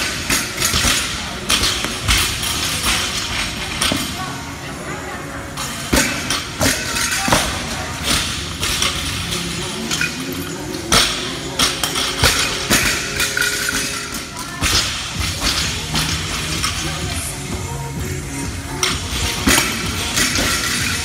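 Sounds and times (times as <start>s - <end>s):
gym music: 0.0s - 21.0s
voices: 0.4s - 21.0s.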